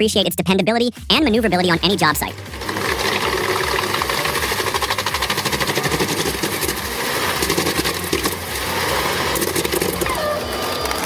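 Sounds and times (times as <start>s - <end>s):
machine engine: 1.4s - 11.0s
wood chipper rattling clatter: 1.5s - 11.0s.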